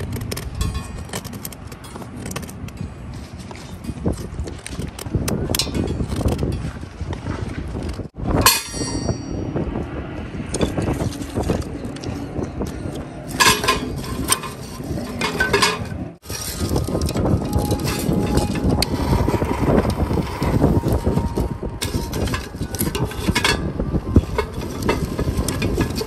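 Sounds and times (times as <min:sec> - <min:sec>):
scattered clicks and clinks: 0:00.0 - 0:06.7, 0:10.5 - 0:26.0
wind buffeting microphone: 0:00.0 - 0:26.0.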